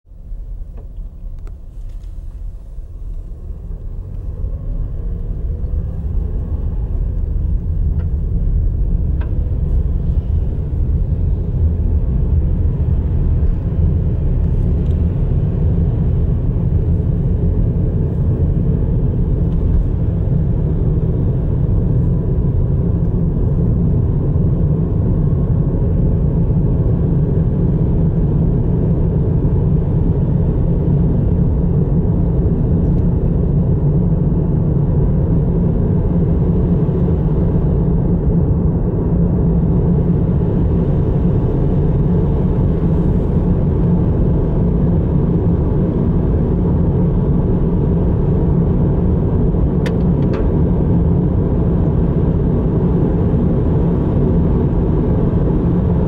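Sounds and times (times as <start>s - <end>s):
car road rumble from inside: 0.1s - 56.0s.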